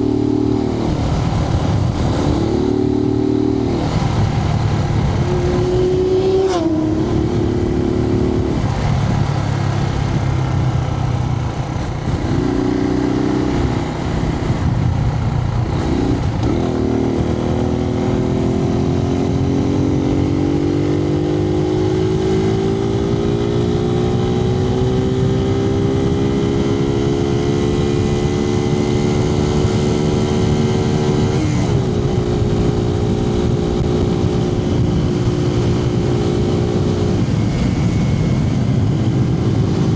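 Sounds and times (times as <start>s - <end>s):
motorcycle engine running: 0.0s - 39.9s
wind rushing: 0.0s - 39.9s.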